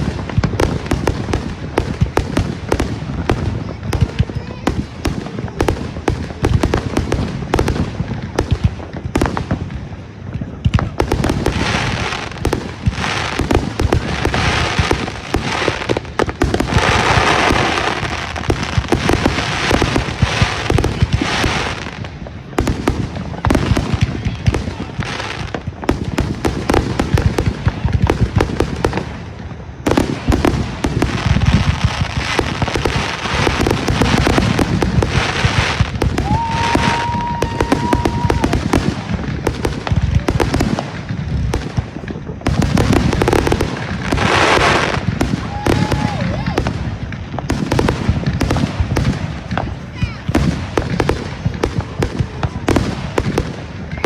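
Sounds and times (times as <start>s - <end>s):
fireworks bangs and pops: 0.0s - 54.0s
fireworks hissing: 0.0s - 54.0s.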